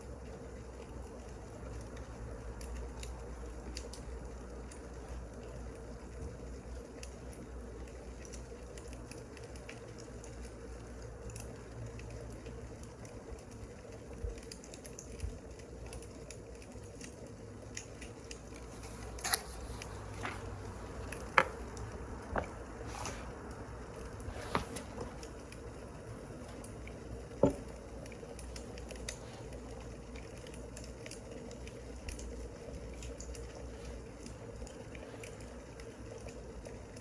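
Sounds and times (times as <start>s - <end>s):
firewood crackling and popping: 0.1s - 37.0s.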